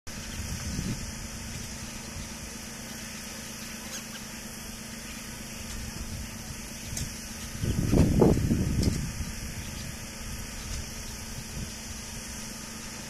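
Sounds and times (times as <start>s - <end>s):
constant hum: 0.1s - 13.0s.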